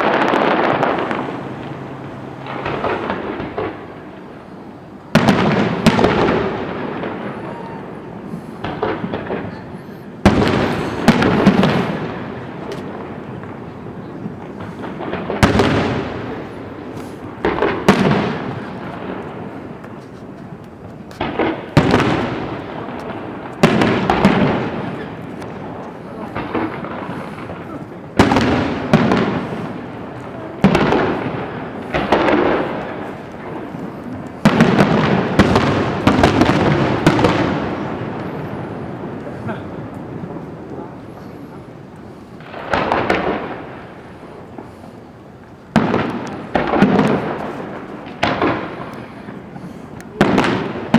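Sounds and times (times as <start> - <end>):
firework rumble and crackle: 0.0 - 50.9
firework shells bursting: 0.0 - 50.9.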